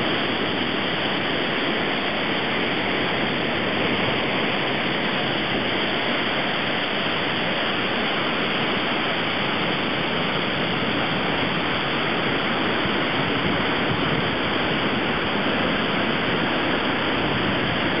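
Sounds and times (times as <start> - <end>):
turbulent water rushing over weir: 0.0 - 18.0.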